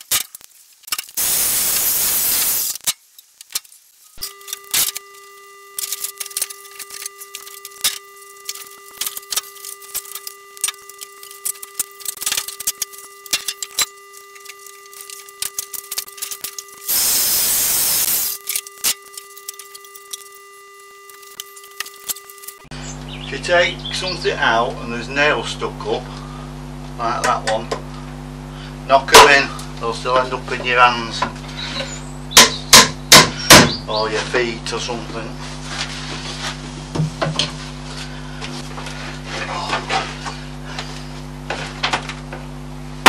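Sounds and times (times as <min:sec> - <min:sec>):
faint steady whine: 0:00.0 - 0:43.0.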